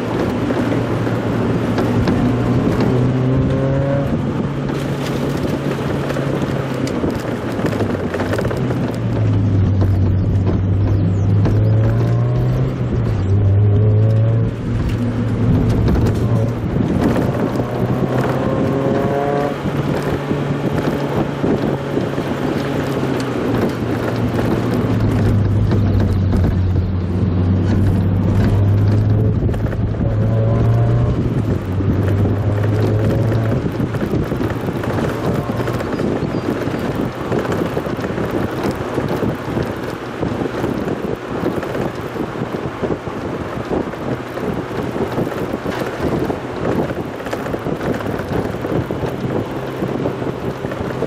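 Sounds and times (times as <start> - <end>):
car engine revving: 0.0 - 51.0
wind and road noise: 0.0 - 51.0.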